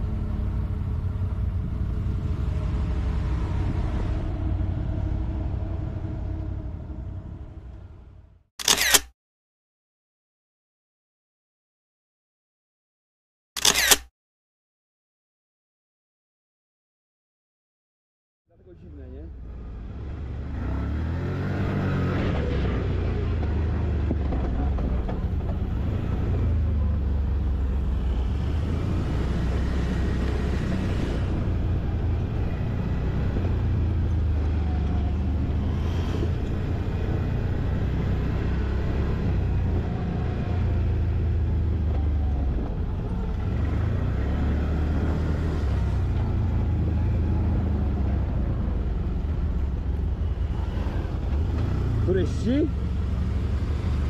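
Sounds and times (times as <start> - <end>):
quad engine droning: 0.0 - 9.1, 18.9 - 54.0.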